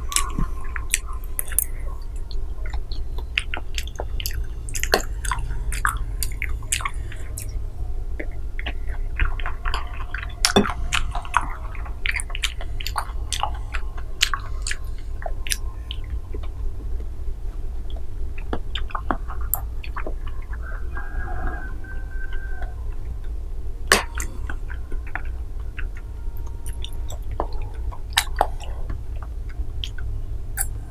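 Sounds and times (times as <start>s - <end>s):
low steady hum: 0.0s - 30.9s
wet chewing: 0.0s - 30.9s.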